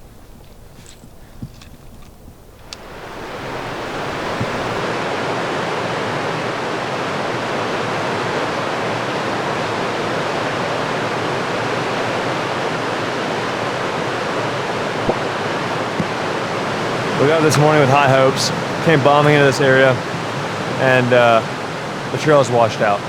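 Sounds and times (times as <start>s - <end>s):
creek rushing: 2.5s - 23.0s.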